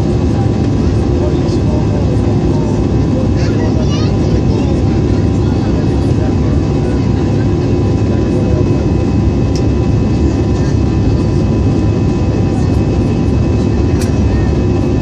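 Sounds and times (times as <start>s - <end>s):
constant whine: 0.0s - 15.0s
jet engine and airflow rumble: 0.0s - 15.0s.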